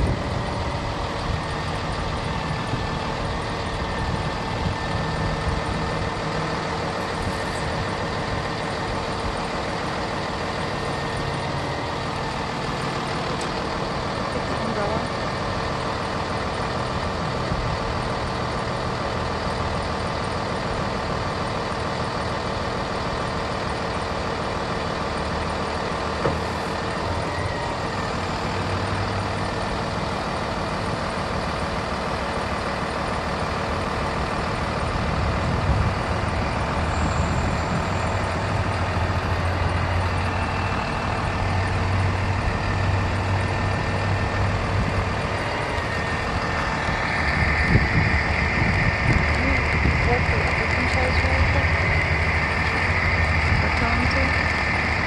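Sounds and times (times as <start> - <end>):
diesel engine running: 0.0 - 55.0
hydraulic low hum: 0.0 - 55.0.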